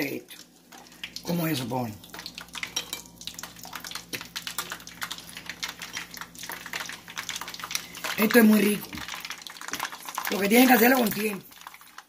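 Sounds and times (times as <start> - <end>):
pork skin frying and crackling: 0.0 - 12.0.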